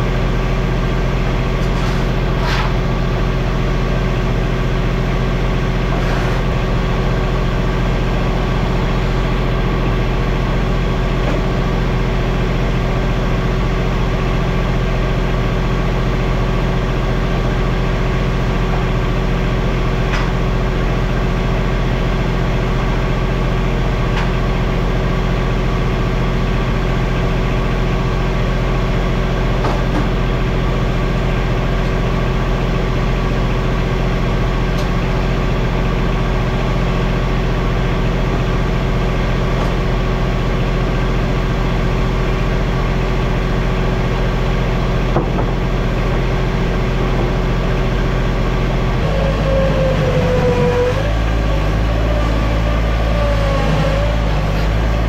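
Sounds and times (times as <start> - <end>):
skid steer engine running: 0.0 - 55.0.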